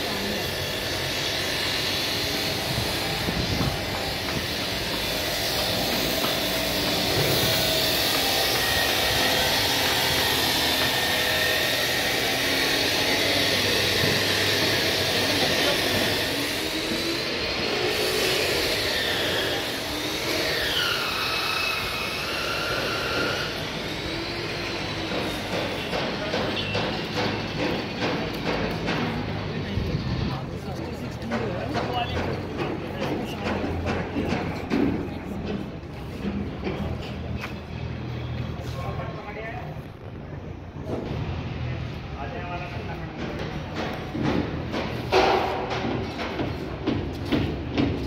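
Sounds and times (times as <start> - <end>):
construction site noise: 0.0 - 48.0.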